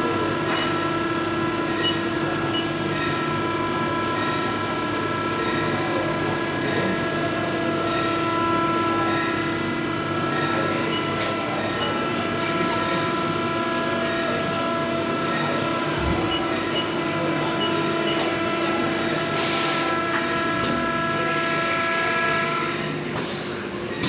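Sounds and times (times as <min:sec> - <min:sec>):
machine motor whining: 0:01.4 - 0:23.1.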